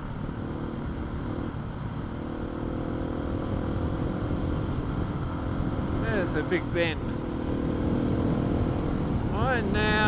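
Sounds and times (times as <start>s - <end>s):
motorcycle engine running: 0.0s - 10.0s
wind and tyre noise: 0.0s - 10.0s.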